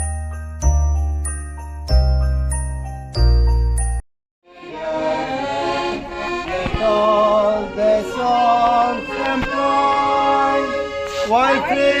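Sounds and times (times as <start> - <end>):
accordion-like christmas melody: 0.0 - 12.0.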